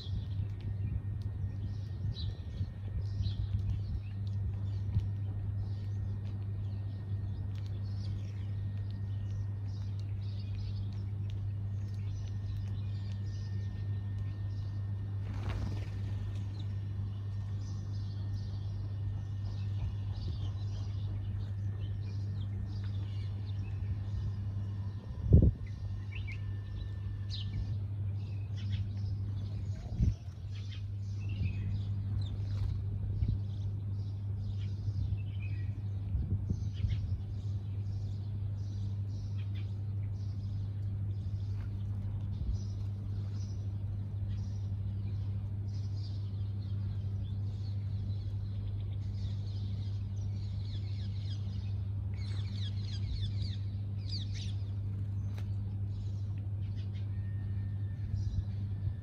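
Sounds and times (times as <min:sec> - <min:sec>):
sparrows chirping: 0:00.0 - 0:59.0
steady low hum: 0:00.0 - 0:59.0.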